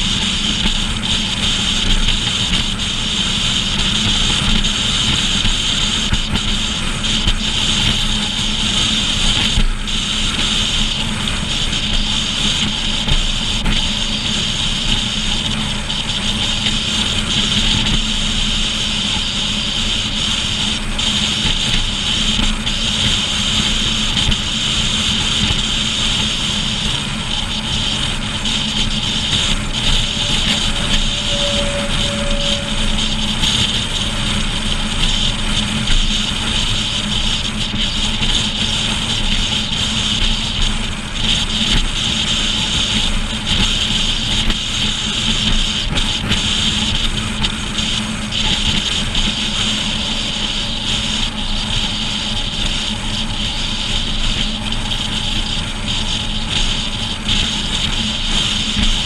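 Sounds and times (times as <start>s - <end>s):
constant low drone: 0.0s - 59.0s
road and wind noise: 0.0s - 59.0s.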